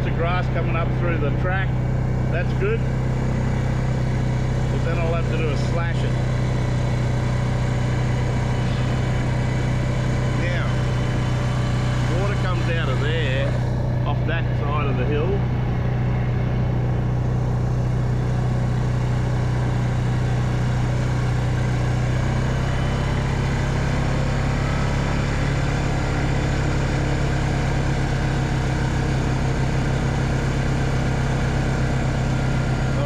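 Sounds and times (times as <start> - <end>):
small farm vehicle engine droning: 0.0 - 33.0.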